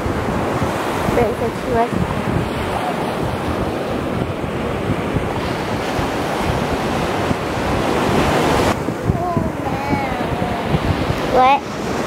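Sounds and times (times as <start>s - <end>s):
ocean surf washing on beach: 0.0s - 12.0s
wind gusting on microphone: 0.0s - 12.0s.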